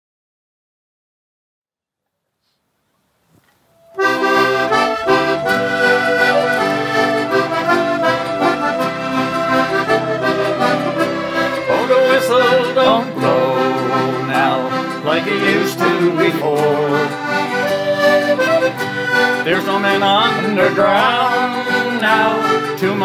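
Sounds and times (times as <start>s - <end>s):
folk music instrumental: 3.8s - 23.0s
person singing: 4.0s - 23.0s.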